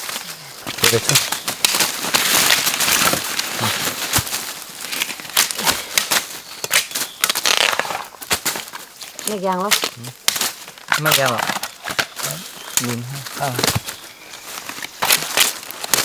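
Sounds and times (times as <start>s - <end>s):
dry crinkling and rustling: 0.0s - 16.0s.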